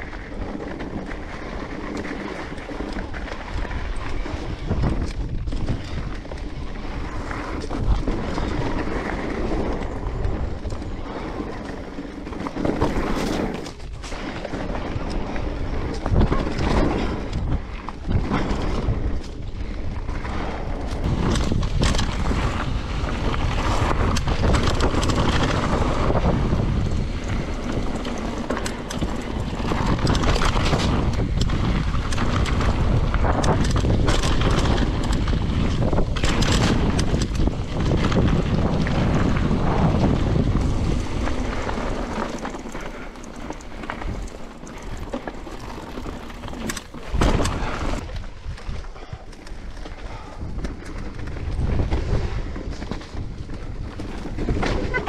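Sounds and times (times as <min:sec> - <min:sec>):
bike tyres rumbling on rough trail: 0:00.0 - 0:55.0
wind buffeting microphone: 0:00.0 - 0:55.0.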